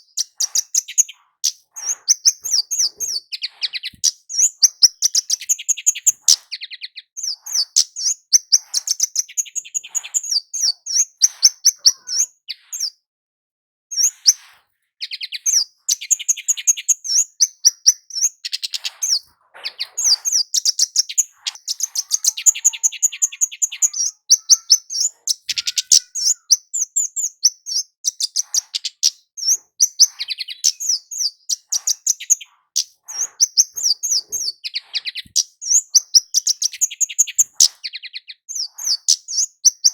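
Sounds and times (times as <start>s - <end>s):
bird singing high chirps and trills: 0.0s - 13.0s, 13.9s - 39.9s.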